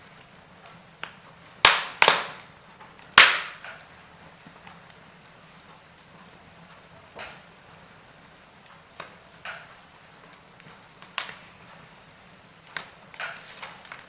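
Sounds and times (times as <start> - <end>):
faint fire hiss: 0.0 - 14.0
wood fire popping: 0.0 - 14.0.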